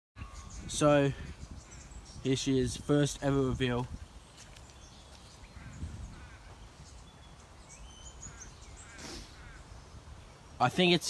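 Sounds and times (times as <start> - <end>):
faint birdsong: 0.2 - 11.0
quiet outdoor background noise: 0.2 - 11.0.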